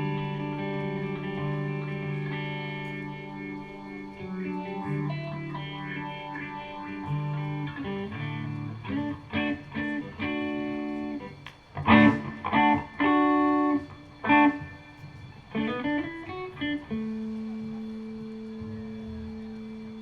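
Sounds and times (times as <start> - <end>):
guitar plucked notes and chords: 0.0 - 20.0.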